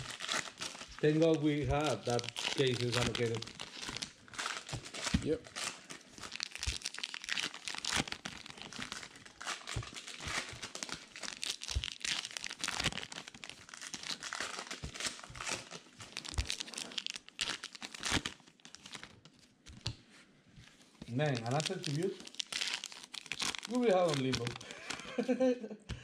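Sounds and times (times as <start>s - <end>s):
wrappers crinkling and rustling: 0.0s - 19.9s, 20.6s - 25.4s.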